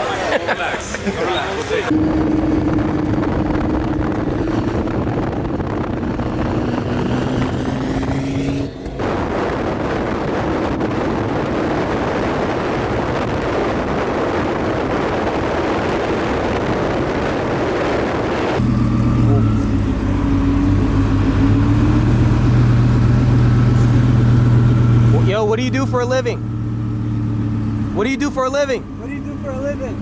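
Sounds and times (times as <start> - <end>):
car engine running loudly: 1.9 - 30.0.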